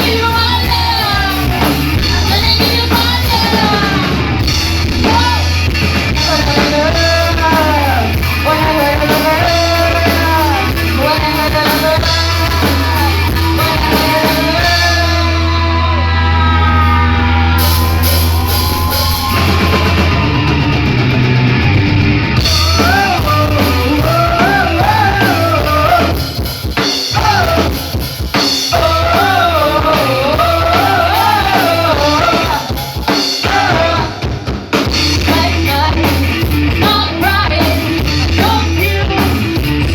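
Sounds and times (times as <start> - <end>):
person singing: 0.0 - 20.4, 22.4 - 26.4, 27.0 - 34.3, 35.2 - 39.9
rock band playing: 0.0 - 39.9.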